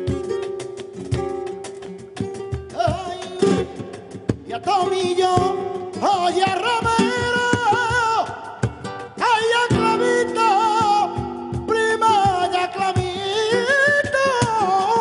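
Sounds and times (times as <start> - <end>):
flamenco guitar playing: 0.0 - 15.0
rhythmic handclaps: 0.0 - 15.0.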